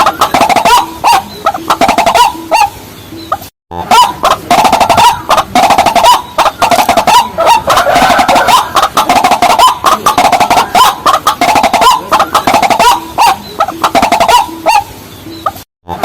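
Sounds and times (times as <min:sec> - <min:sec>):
rails clucking calls: 0:00.0 - 0:16.0.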